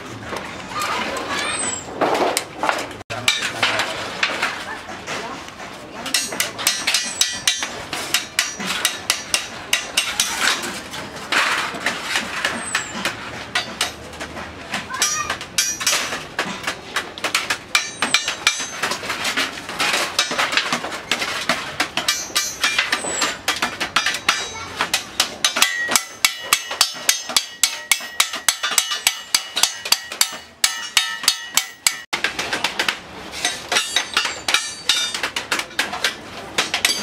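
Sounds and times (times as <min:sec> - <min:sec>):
metal clattering and knocking: 0:01.7 - 0:37.0.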